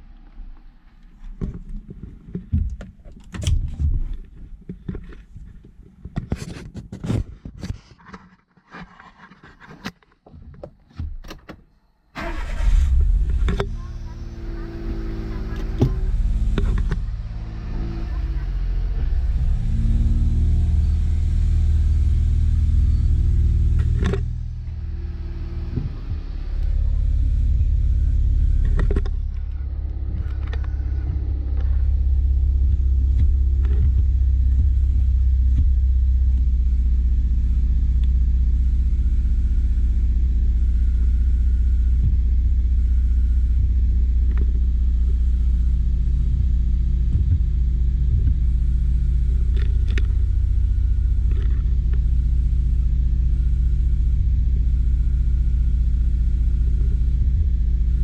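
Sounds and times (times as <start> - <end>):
car engine rumbling: 0.0 - 6.3, 12.2 - 58.0.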